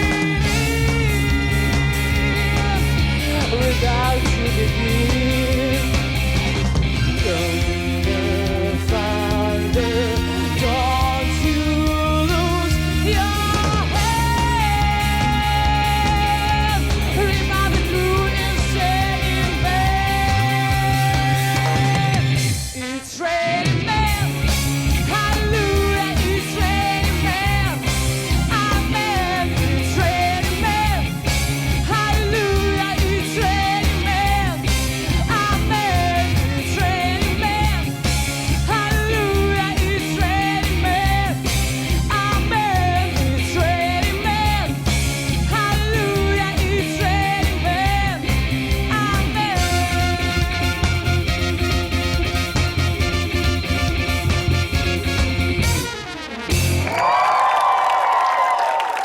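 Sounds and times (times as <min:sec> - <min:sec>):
person singing: 0:00.0 - 0:06.1, 0:07.1 - 0:51.0
band playing pop-rock song: 0:00.0 - 0:57.8.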